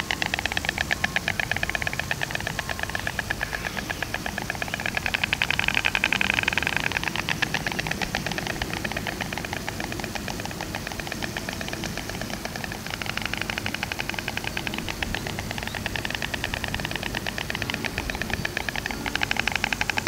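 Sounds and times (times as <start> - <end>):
storks bill-clattering: 0.0 - 20.0.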